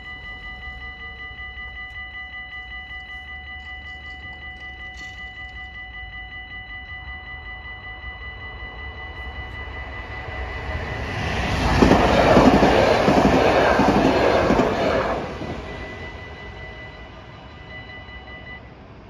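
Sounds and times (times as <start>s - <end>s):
crossing warning bells ringing: 0.0s - 19.0s
electric train passing: 0.0s - 19.0s.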